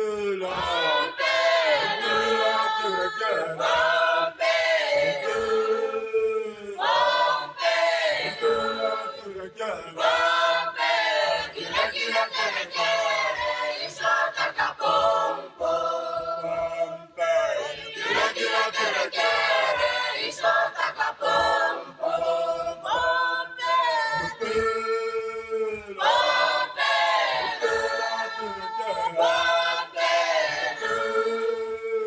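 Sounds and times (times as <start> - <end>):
choir singing in harmony: 0.0 - 32.0.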